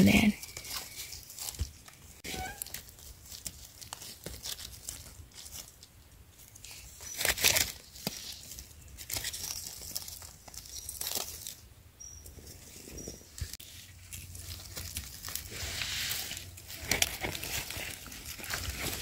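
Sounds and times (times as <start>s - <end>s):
dry leaves rustling and crackling: 0.0s - 11.7s, 12.4s - 19.0s.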